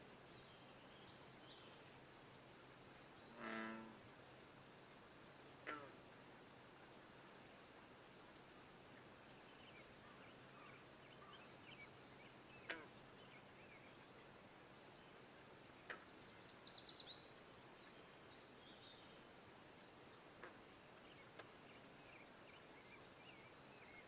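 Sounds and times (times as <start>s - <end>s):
faint bird chirps: 0.4s - 4.1s, 5.3s - 24.0s.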